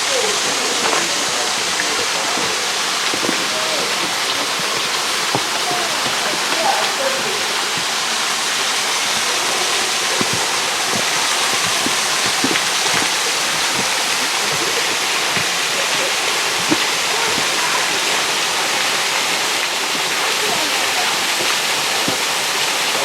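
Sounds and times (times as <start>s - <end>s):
waterfall rushing and splashing: 0.0s - 23.0s.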